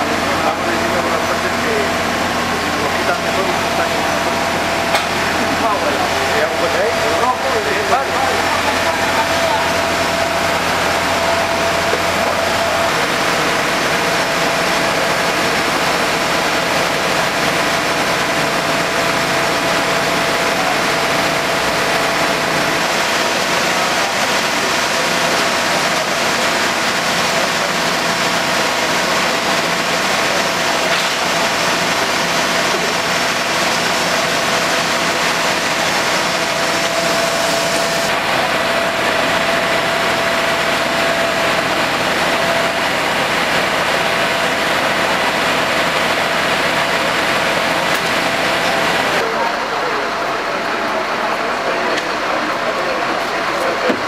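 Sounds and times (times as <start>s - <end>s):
heavy vehicle engine idling: 0.0s - 54.0s.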